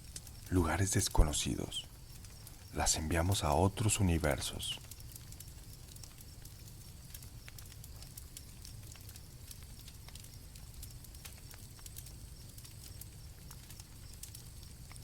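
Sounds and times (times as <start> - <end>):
campfire crackling and popping: 0.0 - 15.0
crickets chirping: 0.0 - 15.0.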